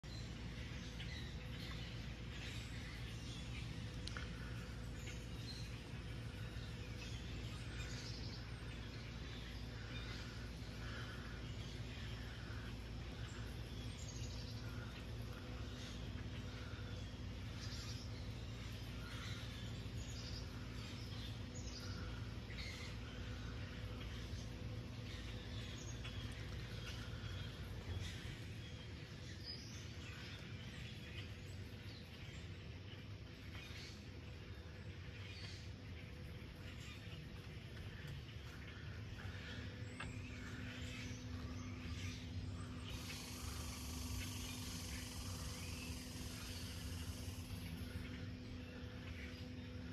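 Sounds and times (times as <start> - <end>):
faint bird chirps: 0.0 - 49.9
low background rumble: 0.0 - 49.9
low hum and soft hiss: 0.0 - 49.9.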